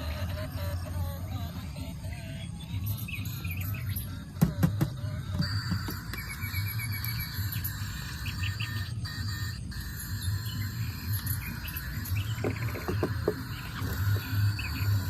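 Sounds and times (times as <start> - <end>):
insect trill: 0.0 - 15.0
insects chirping: 0.0 - 15.0
low pulsing hum: 0.0 - 15.0.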